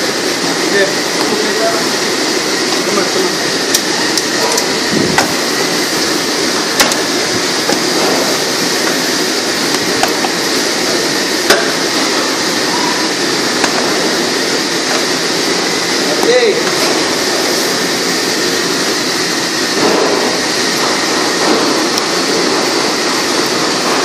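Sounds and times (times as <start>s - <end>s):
loud rushing noise: 0.0s - 24.0s.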